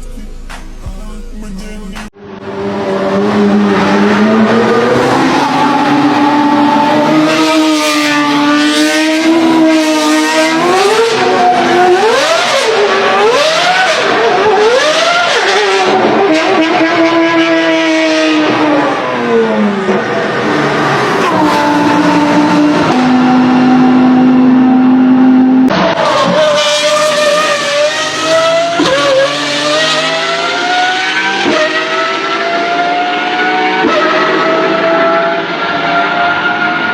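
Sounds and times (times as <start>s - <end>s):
supercar engine revving: 0.0s - 36.9s.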